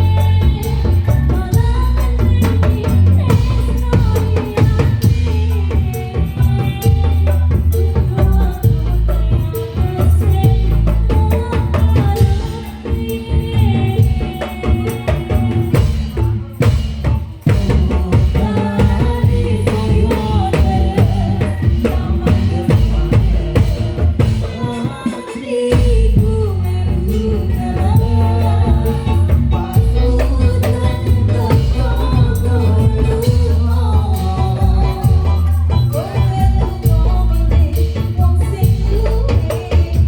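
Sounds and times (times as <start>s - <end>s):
heavy drums: 0.0s - 40.0s
jingling shaker percussion: 0.0s - 40.0s.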